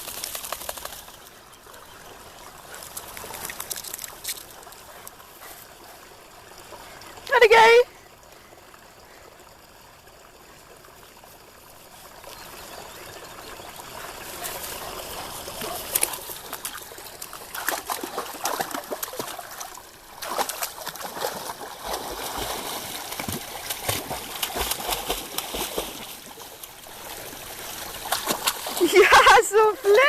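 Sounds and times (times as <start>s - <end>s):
dogs paddling in water: 0.0s - 30.0s.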